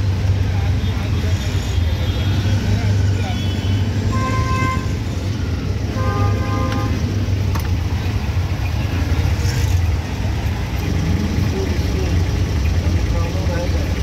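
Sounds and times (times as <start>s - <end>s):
auto-rickshaw engine droning: 0.0s - 14.0s
street traffic: 0.0s - 14.0s.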